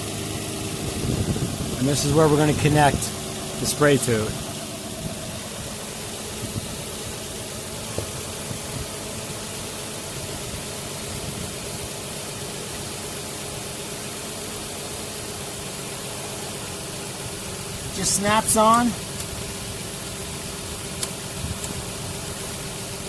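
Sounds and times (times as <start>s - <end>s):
air conditioning rushing: 0.0s - 13.6s, 14.8s - 23.0s
car engine idling: 0.0s - 23.0s.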